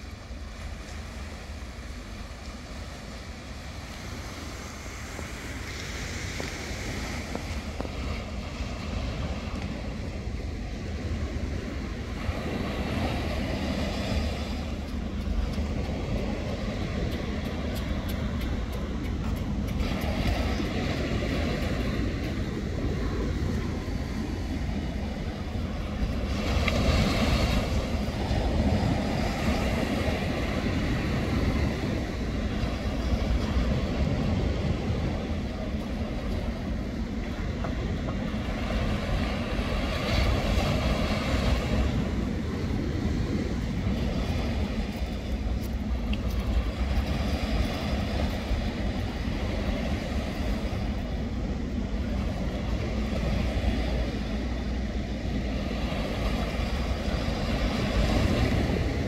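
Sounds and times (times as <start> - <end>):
small waves washing up sand: 0.0 - 59.0
steady low rumble: 0.0 - 59.0.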